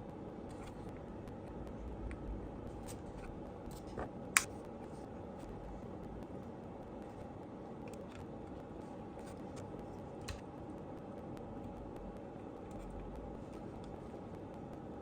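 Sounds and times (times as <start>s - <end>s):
steady low background noise: 0.0s - 15.0s.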